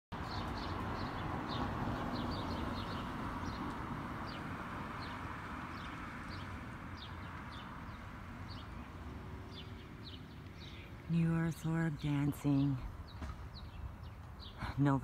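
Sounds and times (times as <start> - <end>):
small songbirds chirping: 0.2 - 15.0.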